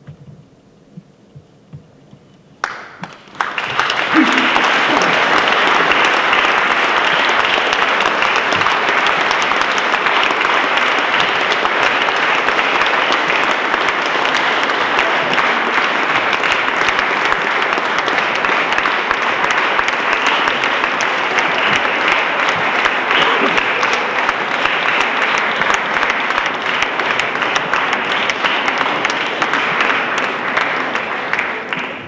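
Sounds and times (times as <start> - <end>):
audience applauding: 2.6 - 32.0.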